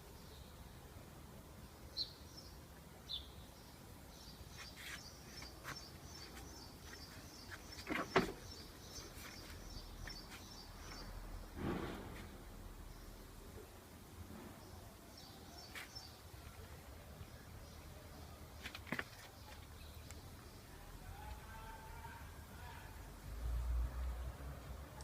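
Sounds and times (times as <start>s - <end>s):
small birds chirping: 1.6s - 22.9s.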